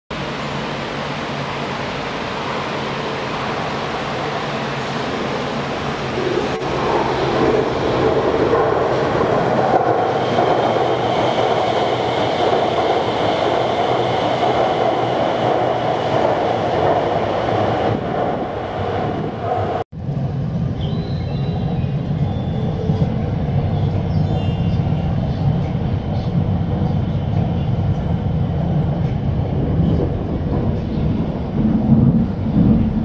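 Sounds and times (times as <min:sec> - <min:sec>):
steady train rumble: 0:00.1 - 0:33.0
train passing at speed: 0:00.1 - 0:33.0.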